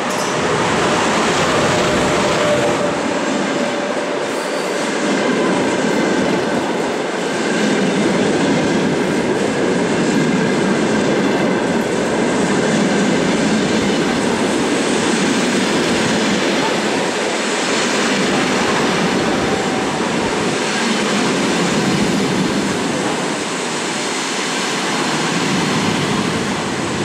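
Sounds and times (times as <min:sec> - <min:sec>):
electric locomotive passing: 0:00.0 - 0:27.0
train wheels on rails: 0:00.0 - 0:27.0.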